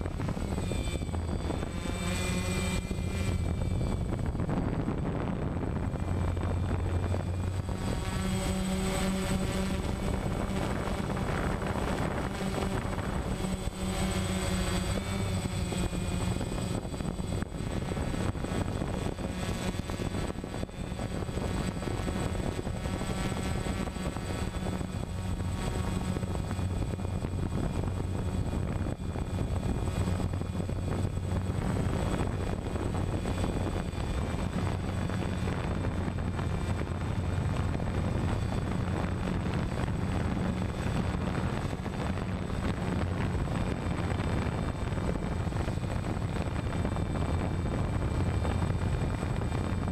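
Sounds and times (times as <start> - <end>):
drone propellers buzzing: 0.0 - 49.9.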